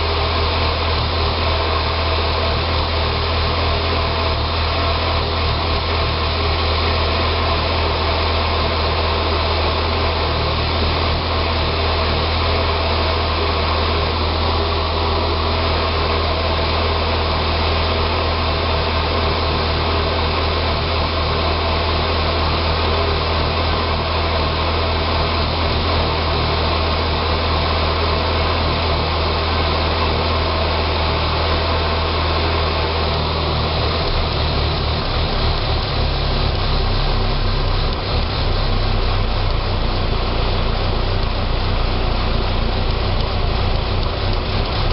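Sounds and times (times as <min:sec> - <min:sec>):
car engine idling roughly: 0:00.0 - 0:44.9.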